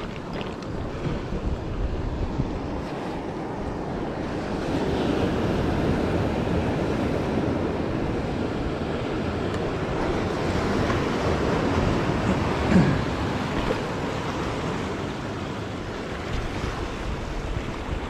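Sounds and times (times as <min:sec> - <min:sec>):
sea surf washing over boulders: 0:00.0 - 0:18.0
wind buffeting microphone: 0:00.0 - 0:18.0.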